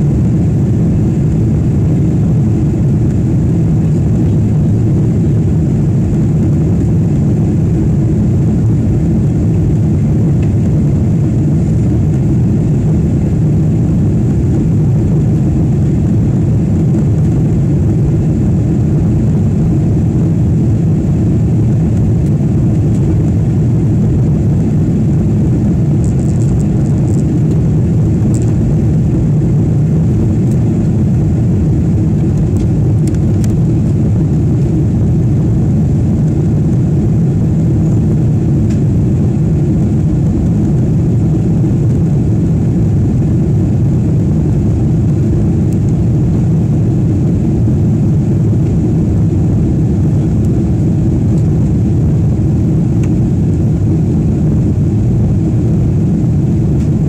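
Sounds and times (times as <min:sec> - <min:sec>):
airflow over fuselage: 0:00.0 - 0:57.0
airliner cabin engine rumble: 0:00.0 - 0:57.0.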